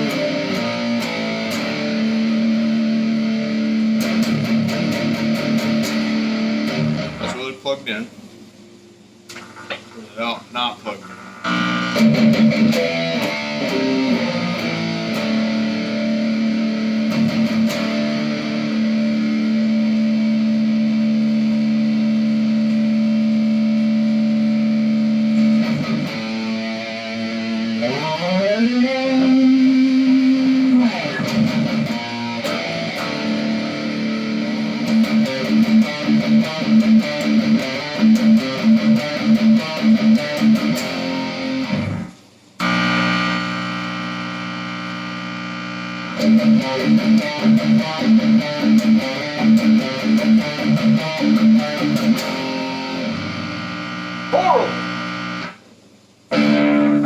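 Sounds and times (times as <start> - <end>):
distorted electric guitar: 0.0 - 7.6, 9.3 - 55.7, 56.3 - 57.0.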